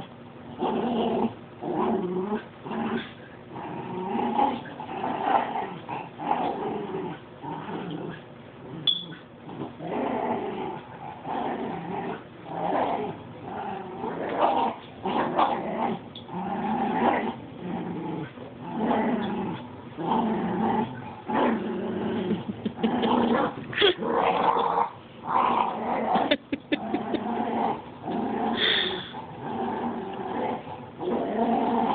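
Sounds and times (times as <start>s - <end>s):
dogs growling in play: 0.0s - 31.9s.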